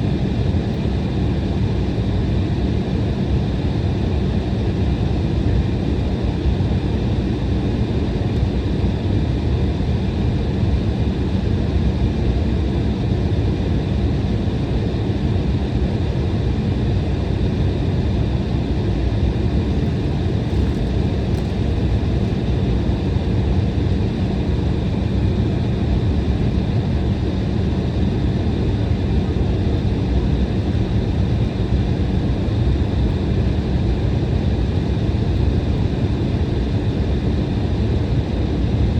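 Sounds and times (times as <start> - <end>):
jet engine and cabin air rumble: 0.0 - 38.9.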